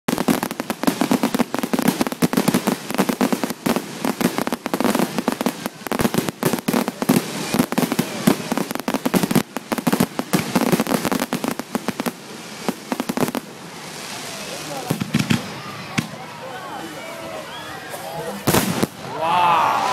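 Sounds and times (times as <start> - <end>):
fireworks bangs and crackles: 0.1 - 17.4, 18.0 - 19.2.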